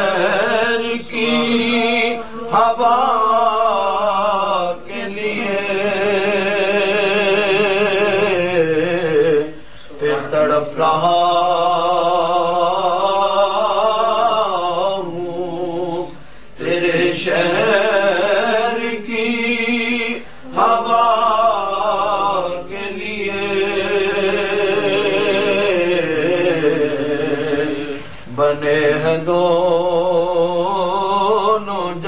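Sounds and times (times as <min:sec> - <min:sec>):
man singing: 0:00.0 - 0:32.0.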